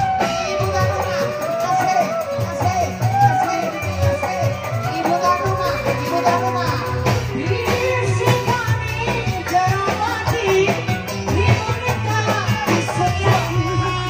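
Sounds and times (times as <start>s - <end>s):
live band music through speakers: 0.0s - 14.0s
woman singing into microphone: 0.0s - 14.0s.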